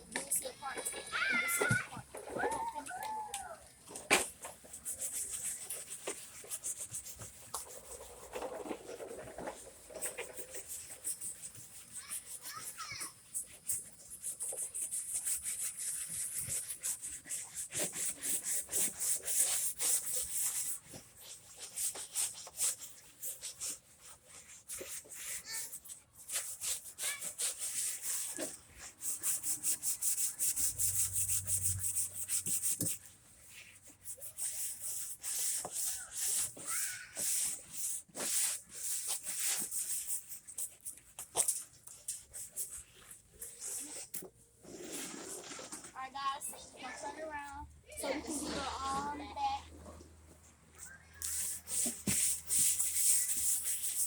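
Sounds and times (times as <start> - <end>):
sandpaper on wood: 4.4 - 45.8, 50.9 - 54.0.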